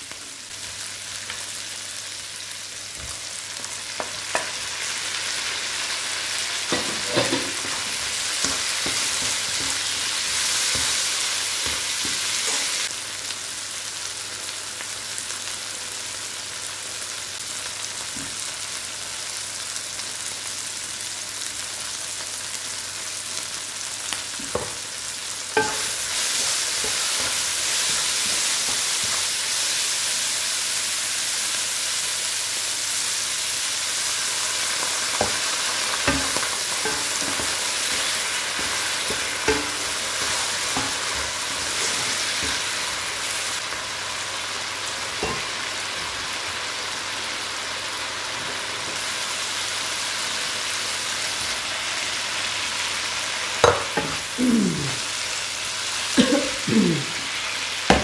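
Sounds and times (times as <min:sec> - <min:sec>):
stir-fry sizzling in a pan: 0:00.0 - 0:58.0.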